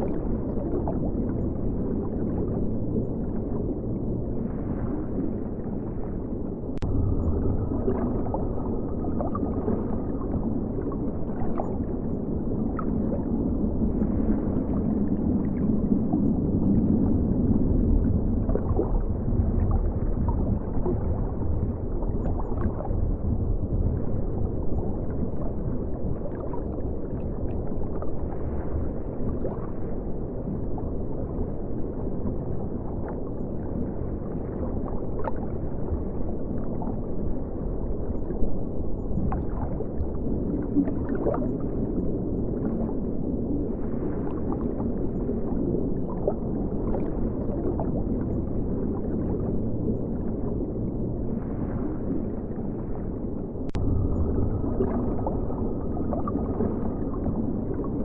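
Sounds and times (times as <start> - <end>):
faint steady tone: 0.0 - 58.0
low rumble: 0.0 - 58.0
muffled underwater river gurgling: 0.0 - 58.0.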